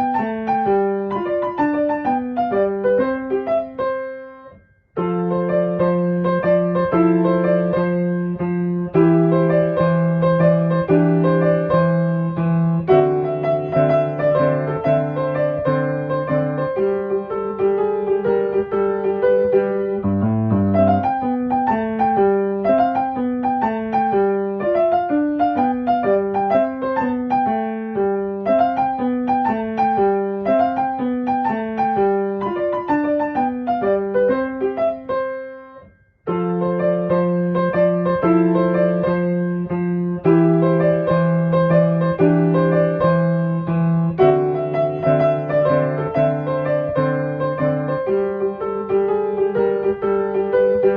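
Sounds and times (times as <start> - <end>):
piano music: 0.0 - 50.9.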